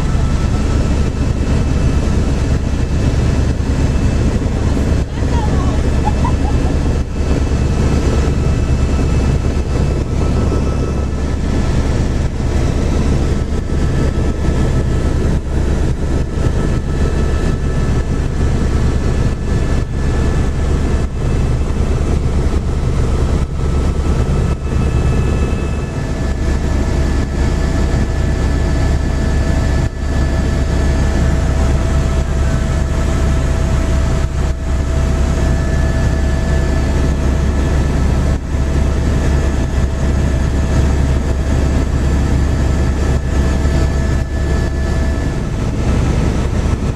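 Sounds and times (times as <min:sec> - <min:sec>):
helicopter drone: 0:00.0 - 0:46.9.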